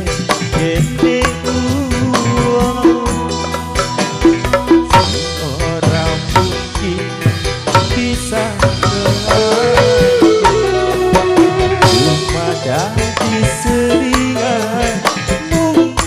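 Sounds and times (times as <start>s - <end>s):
electric guitars: 0.0s - 16.0s
hand drums beating quick rhythm: 0.0s - 16.0s
keyboard melody: 0.0s - 16.0s.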